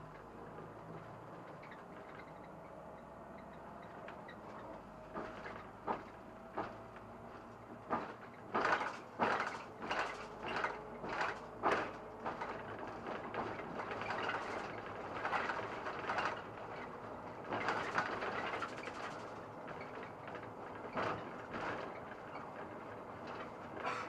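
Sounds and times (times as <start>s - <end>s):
bus engine running: 0.0s - 24.0s
sharp knocks and rattles: 3.4s - 24.0s.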